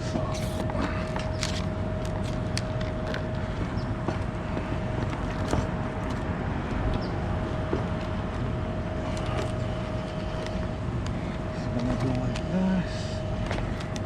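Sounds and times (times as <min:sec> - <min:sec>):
thin steady whine: 0:00.0 - 0:14.0
truck engine running: 0:00.0 - 0:14.0.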